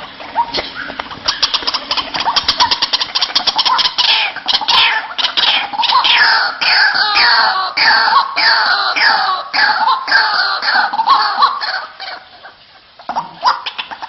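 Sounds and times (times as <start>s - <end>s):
waterhen calling: 0.0s - 14.0s.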